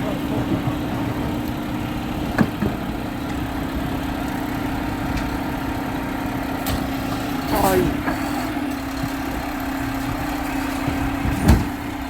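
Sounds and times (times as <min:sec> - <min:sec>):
garbage truck engine idling: 0:00.0 - 0:12.0.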